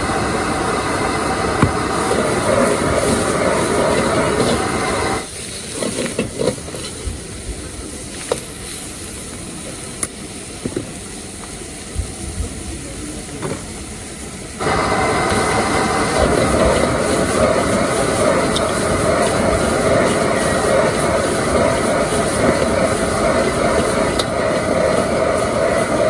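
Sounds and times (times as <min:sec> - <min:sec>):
gas wok burner roaring: 0:00.0 - 0:26.0.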